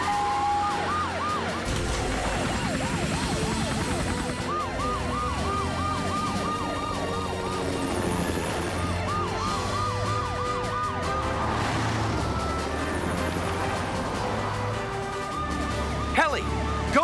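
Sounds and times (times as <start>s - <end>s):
emergency sirens yelping: 0.0s - 17.0s.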